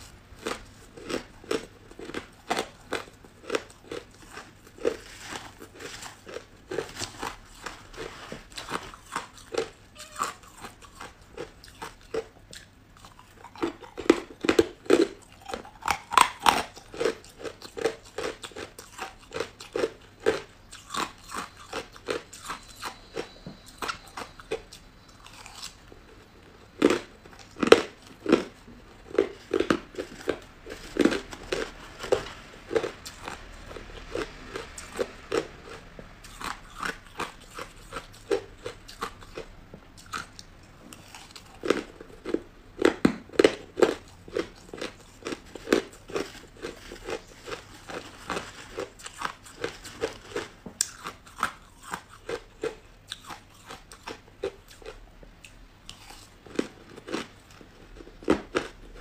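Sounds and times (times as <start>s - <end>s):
crushed ice being chewed: 0.0s - 59.0s.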